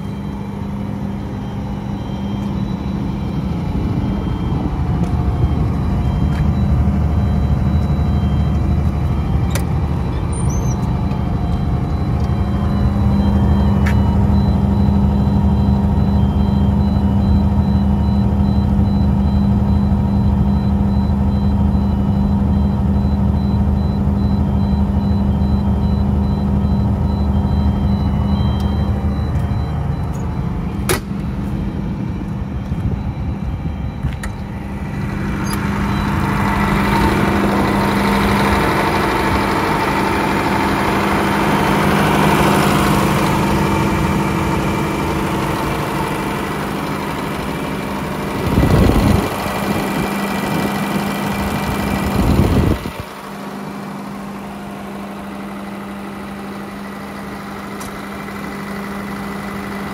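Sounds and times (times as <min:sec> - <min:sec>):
diesel generator humming: 0:00.0 - 0:59.9.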